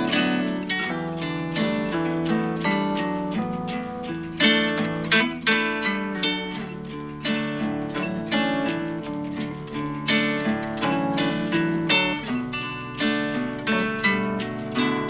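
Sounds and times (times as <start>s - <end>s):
plucked acoustic guitar: 0.0s - 15.0s.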